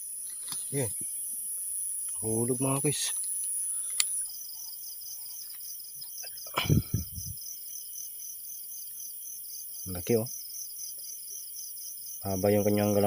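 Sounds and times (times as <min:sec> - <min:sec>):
crickets chirping: 0:00.0 - 0:13.0
high insect trill: 0:00.0 - 0:13.0.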